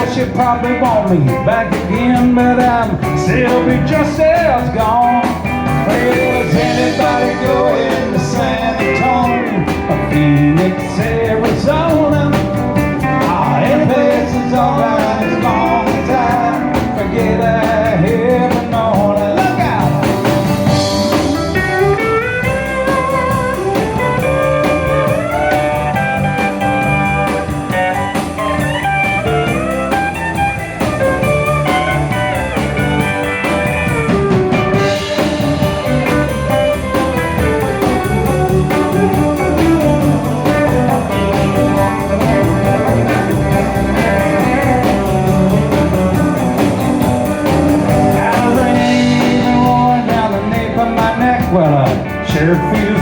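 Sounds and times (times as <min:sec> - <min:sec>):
country band playing: 0:00.0 - 0:53.0
guitar lead with bending notes: 0:00.0 - 0:53.0.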